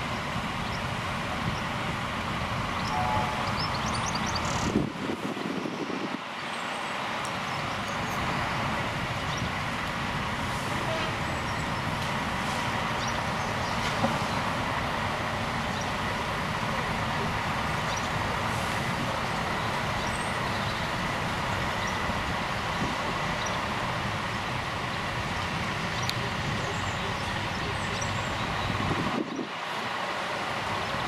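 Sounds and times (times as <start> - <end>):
trucks driving slowly past: 0.0 - 31.0.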